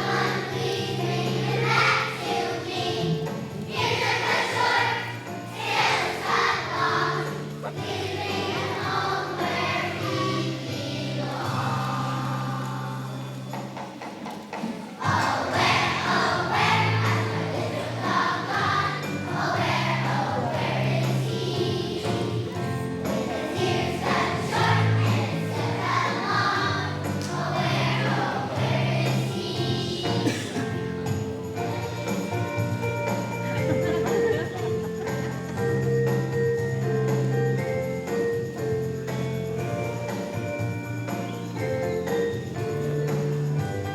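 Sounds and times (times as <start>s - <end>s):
children's choir singing: 0.0s - 37.4s
instrumental accompaniment: 0.0s - 43.9s.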